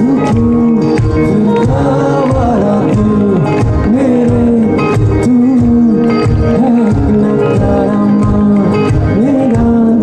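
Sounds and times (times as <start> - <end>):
person singing: 0.0 - 10.0
steady drum beat: 0.0 - 10.0
strummed acoustic guitars: 0.0 - 10.0.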